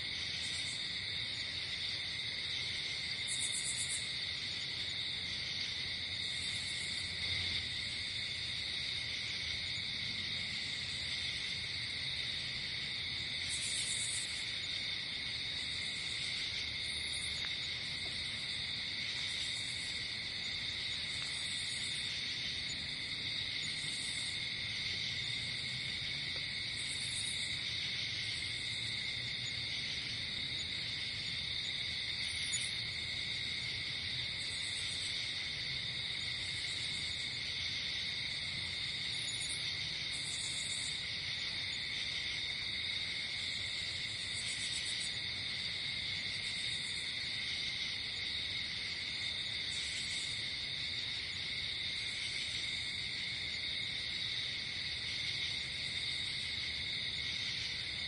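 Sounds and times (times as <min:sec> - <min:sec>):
cricket chorus: 0:00.0 - 0:58.0.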